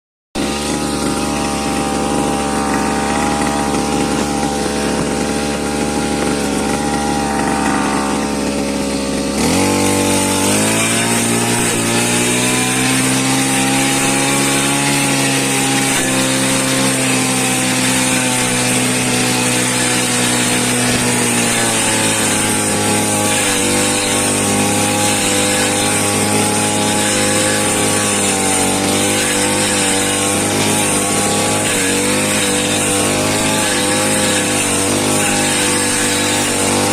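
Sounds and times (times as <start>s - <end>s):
small engine running: 0.4s - 36.9s.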